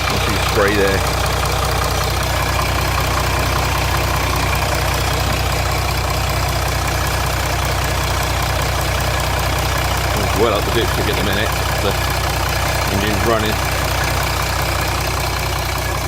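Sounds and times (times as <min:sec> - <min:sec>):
diesel engine idling: 0:00.0 - 0:16.0
engine rattle: 0:00.0 - 0:16.0.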